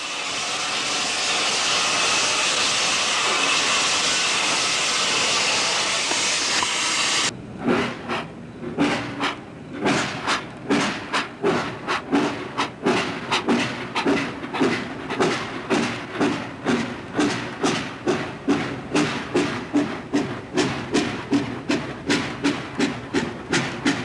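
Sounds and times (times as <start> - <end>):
steam locomotive exhaust chuffs: 0.0 - 24.0.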